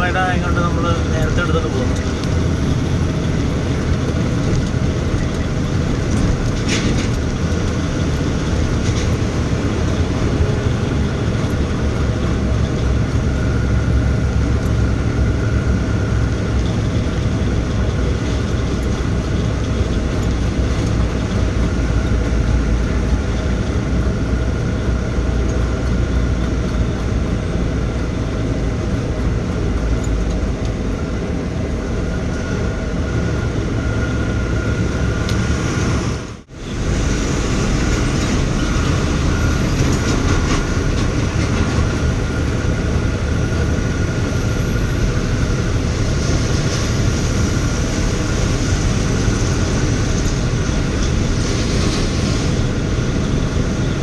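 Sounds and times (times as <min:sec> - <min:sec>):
truck diesel engine rumbling: 0:00.0 - 0:54.0.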